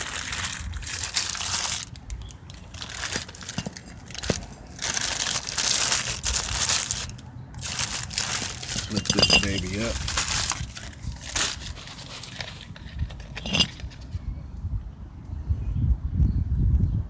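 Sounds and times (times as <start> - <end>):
packaging crinkling and rustling: 0.0 - 14.1.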